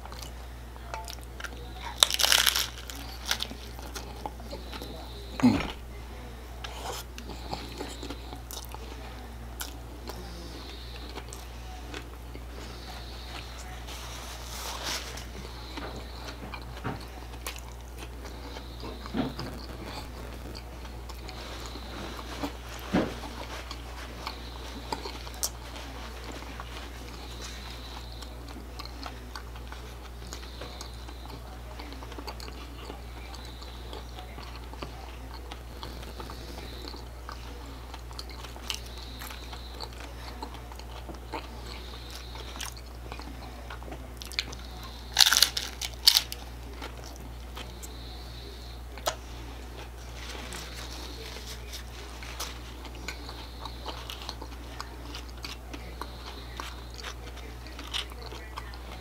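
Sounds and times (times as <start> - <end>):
low hum: 0.0 - 54.2
chewing crunchy taco: 0.0 - 59.0.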